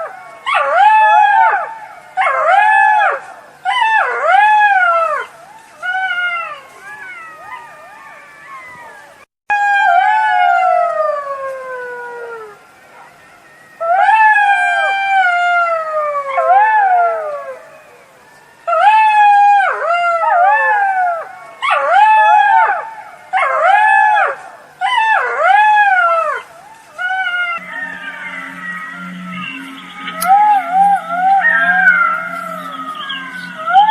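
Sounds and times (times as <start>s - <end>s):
jackals howling: 0.0s - 33.9s.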